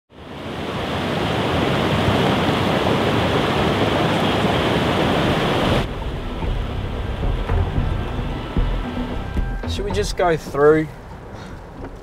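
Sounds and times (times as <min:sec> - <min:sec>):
floodwater rushing: 0:00.2 - 0:11.8.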